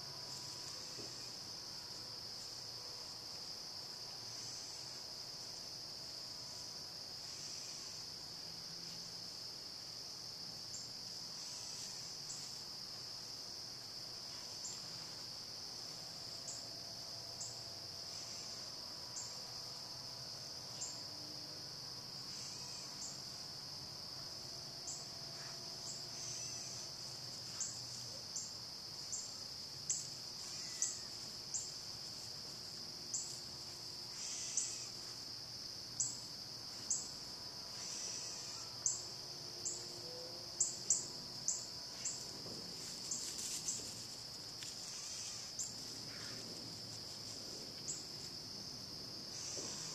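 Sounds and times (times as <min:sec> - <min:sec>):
high-pitched insect chorus: 0:00.0 - 0:49.9
sharp insect chirps: 0:00.0 - 0:49.9.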